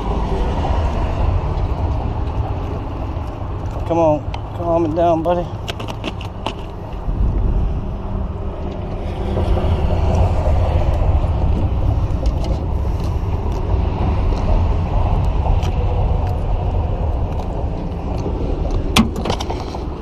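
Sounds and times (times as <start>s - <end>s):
road traffic rumble on bridge: 0.0s - 20.0s.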